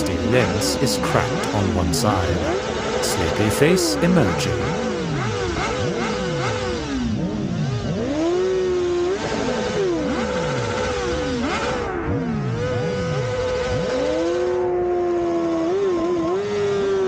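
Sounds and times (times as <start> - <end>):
engine held at steady pitch: 0.0 - 17.0
motorcycle engines revving: 0.0 - 17.0.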